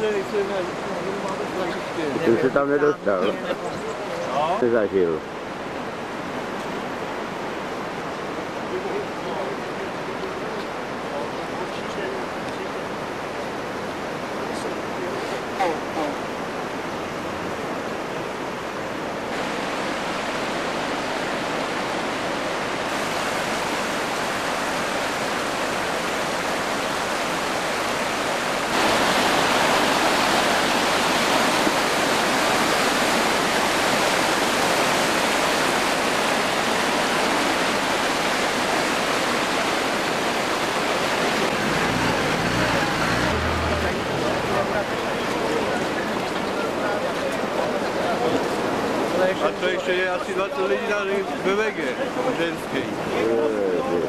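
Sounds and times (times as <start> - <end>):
flood water rushing: 0.0 - 54.0.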